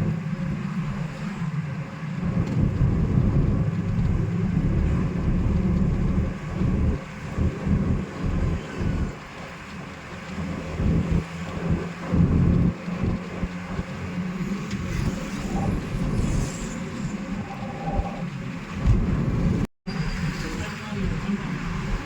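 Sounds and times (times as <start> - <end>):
wind buffeting microphone: 0.0 - 19.7
car engine and road rumble: 0.0 - 22.0.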